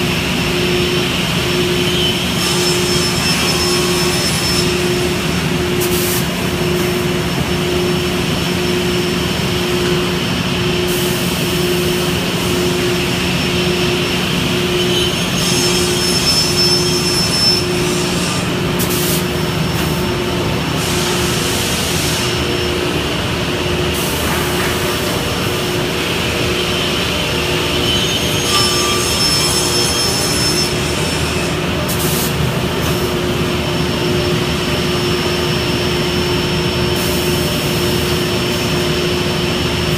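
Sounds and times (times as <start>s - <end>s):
panel saw machine drone: 0.0s - 39.9s.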